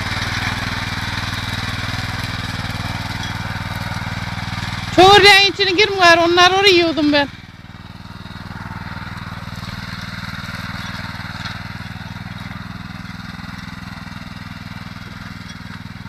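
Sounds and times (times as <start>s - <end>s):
motor tiller engine running: 0.0s - 16.0s.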